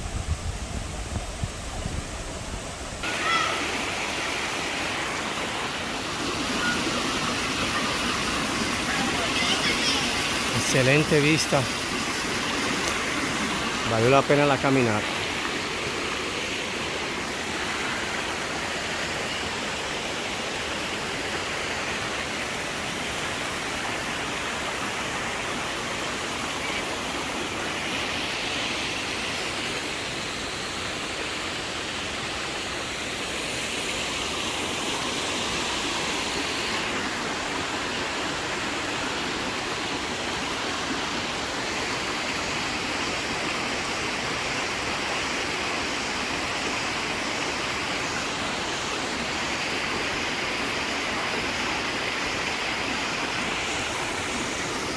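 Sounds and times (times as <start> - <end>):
rushing river water: 0.0 - 54.9.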